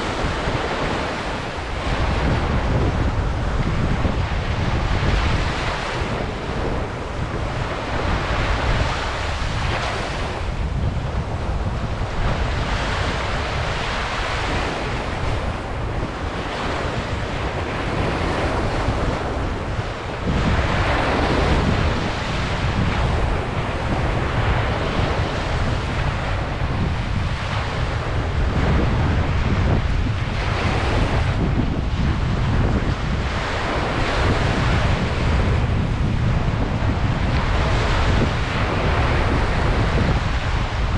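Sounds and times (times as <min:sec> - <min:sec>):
ocean waves breaking on beach: 0:00.0 - 0:40.9
wind rumbling on microphone: 0:00.0 - 0:40.9.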